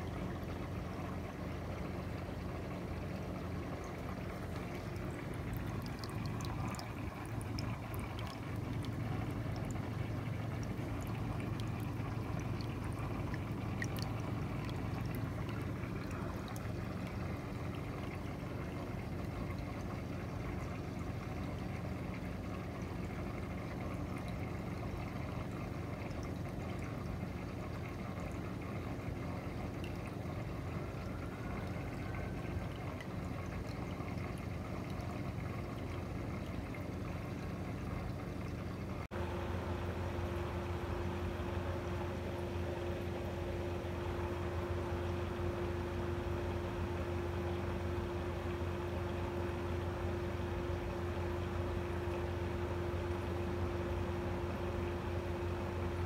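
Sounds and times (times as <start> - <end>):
low filter hum: 0.0 - 56.0
water trickling into tank: 0.0 - 56.0.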